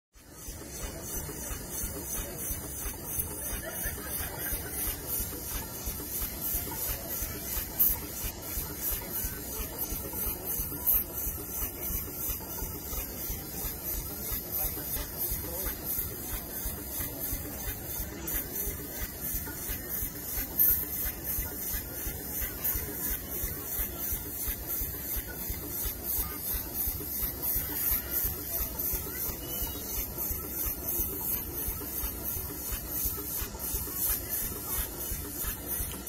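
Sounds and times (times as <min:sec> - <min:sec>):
steam engine exhaust beating: 0:00.1 - 0:36.0
steam hissing: 0:00.2 - 0:36.0.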